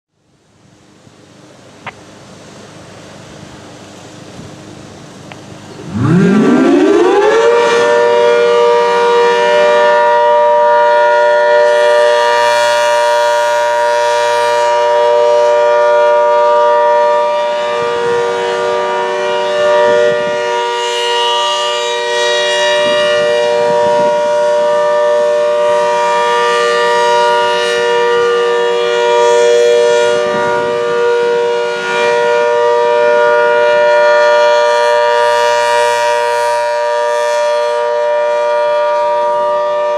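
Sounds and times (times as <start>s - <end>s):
warning siren steady chord: 0.4s - 39.9s.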